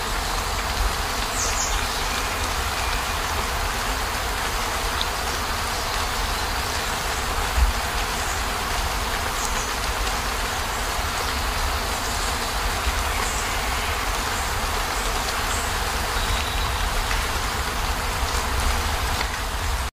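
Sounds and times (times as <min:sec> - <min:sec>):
rain on a vehicle roof: 0:00.0 - 0:19.9.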